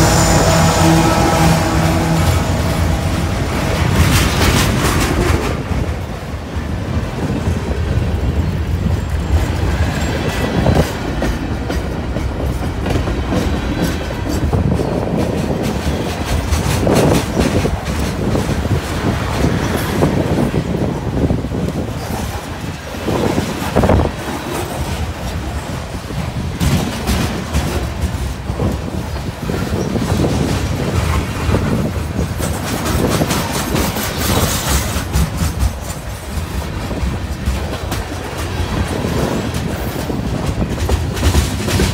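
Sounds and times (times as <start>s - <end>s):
steel wheels rumbling on rail: 0.0s - 41.9s
wheels clacking and knocking: 2.4s - 41.9s.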